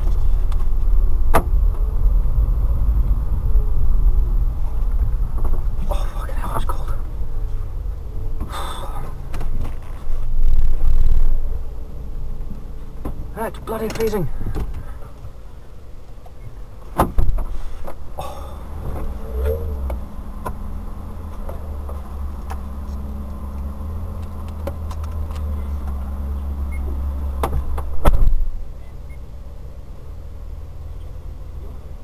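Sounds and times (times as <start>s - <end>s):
vehicle engine idling: 0.0s - 32.0s.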